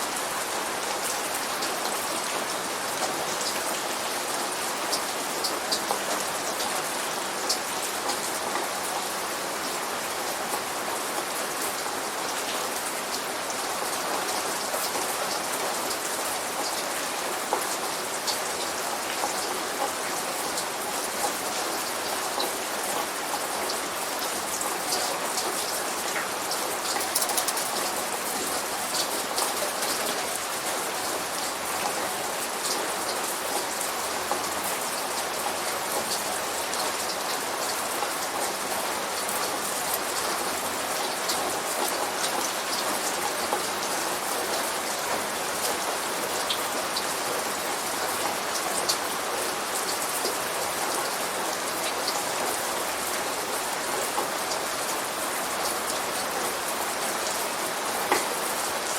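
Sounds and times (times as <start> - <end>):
light rain on a hard surface: 0.0 - 58.9.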